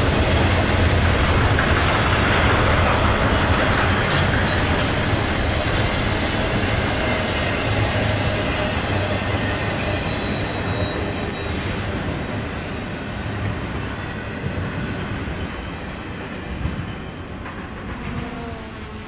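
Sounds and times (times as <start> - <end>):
freight train cars rolling: 0.0 - 18.3.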